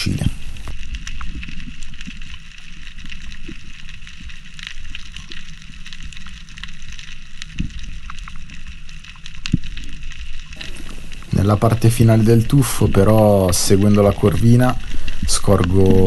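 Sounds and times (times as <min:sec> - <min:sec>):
low underwater rumble: 0:00.0 - 0:16.0
underwater crackling clicks: 0:00.0 - 0:16.0.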